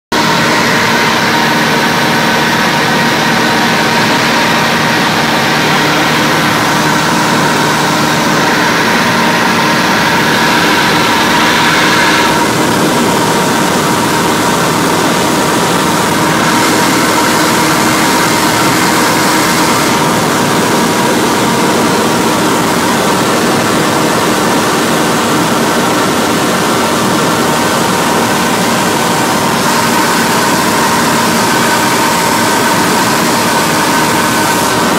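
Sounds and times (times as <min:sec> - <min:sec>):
propeller plane engine droning: 0:00.0 - 0:34.9.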